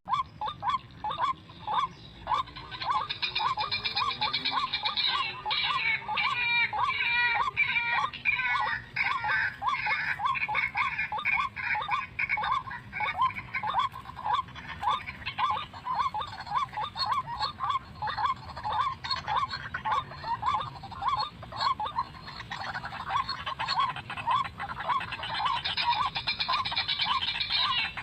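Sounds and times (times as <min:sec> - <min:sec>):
waterhen calling: 0:00.1 - 0:28.0.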